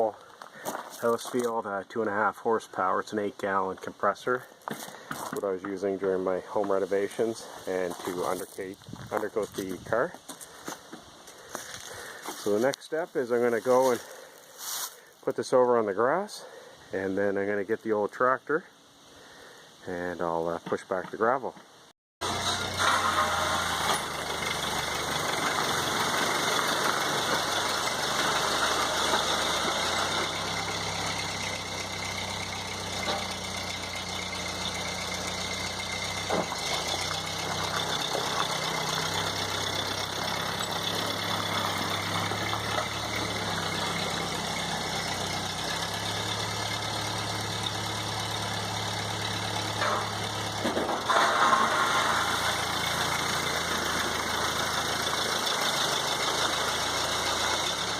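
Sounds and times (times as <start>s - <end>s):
tractor engine running: 0.0s - 14.9s, 22.2s - 57.9s.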